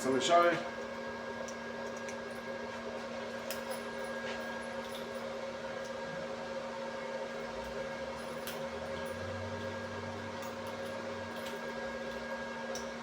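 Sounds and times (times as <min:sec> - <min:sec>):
electrical hum of shop machinery: 0:00.0 - 0:13.0.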